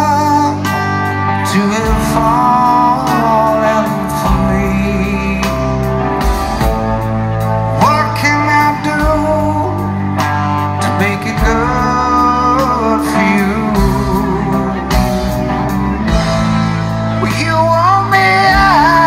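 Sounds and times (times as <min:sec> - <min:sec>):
man singing: 0:00.0 - 0:19.0
rock band playing: 0:00.0 - 0:19.0.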